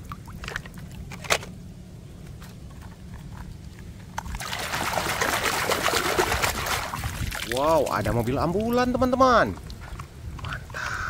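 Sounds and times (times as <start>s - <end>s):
water splashing and sloshing: 0.0s - 10.8s.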